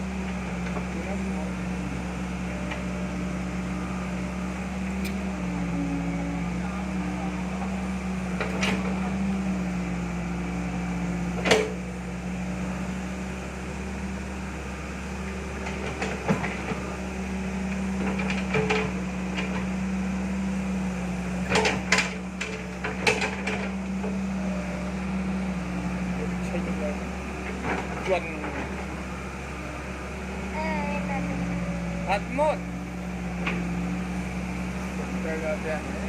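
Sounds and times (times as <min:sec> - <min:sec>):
motor hum: 0:00.0 - 0:36.0.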